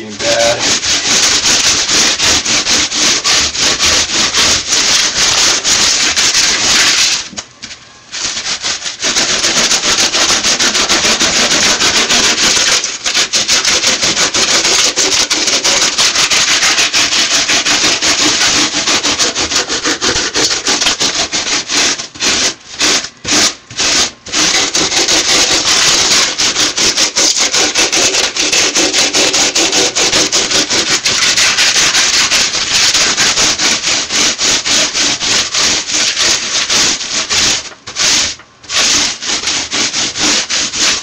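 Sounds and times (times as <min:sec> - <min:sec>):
rasp scraping styrofoam: 0:00.0 - 0:07.4, 0:08.1 - 0:41.0.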